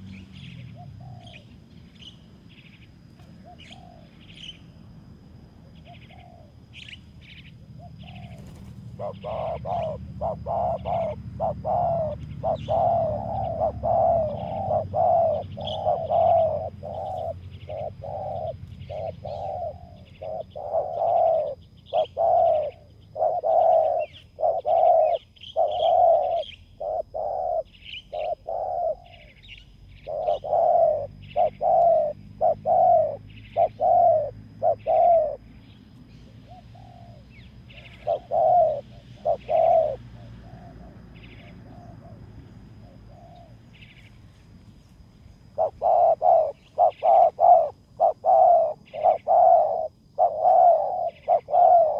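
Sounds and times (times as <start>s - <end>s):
doves cooing: 0.0s - 51.9s
small birds chirping: 0.0s - 51.9s.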